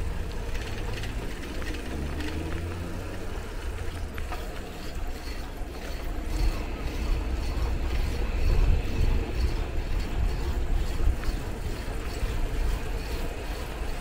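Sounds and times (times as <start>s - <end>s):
bicycle road noise: 0.0s - 14.0s
vehicle engine humming: 0.0s - 14.0s
wind rumble on microphone: 0.0s - 14.0s.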